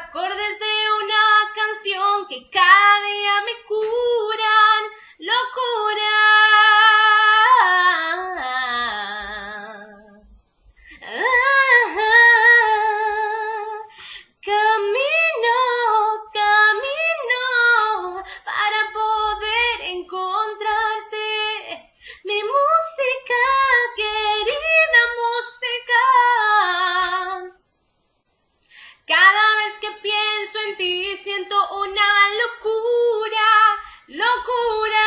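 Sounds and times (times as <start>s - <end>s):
woman singing a cappella: 0.0s - 27.7s, 28.9s - 35.0s.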